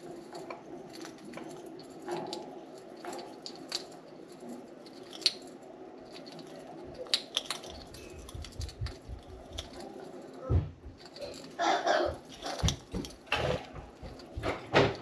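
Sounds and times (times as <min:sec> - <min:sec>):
birds chewing wood: 0:00.0 - 0:15.0.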